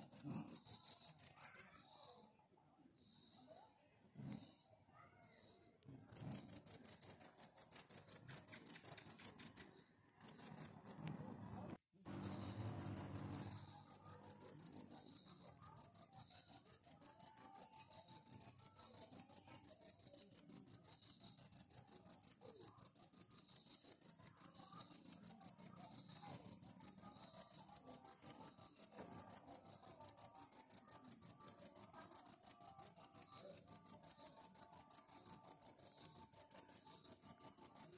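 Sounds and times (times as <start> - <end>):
cricket chirping: 0.0 - 37.9.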